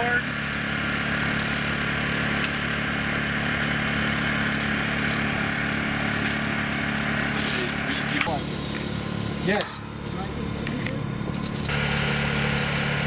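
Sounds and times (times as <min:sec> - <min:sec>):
small engine humming: 0:00.0 - 0:13.0.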